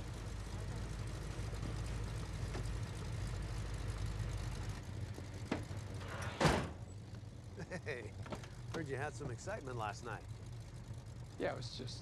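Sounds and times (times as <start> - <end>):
car engine idling: 0.0 - 6.1, 6.8 - 12.0.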